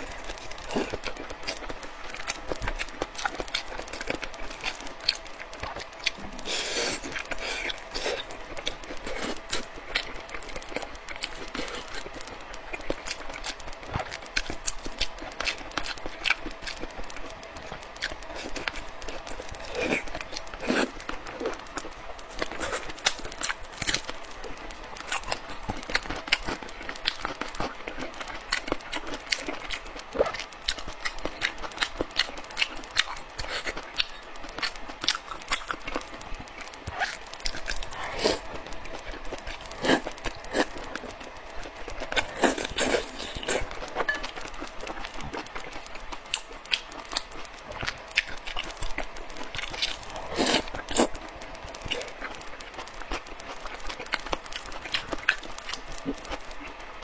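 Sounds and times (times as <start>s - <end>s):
person chewing noodles: 0.0s - 56.8s.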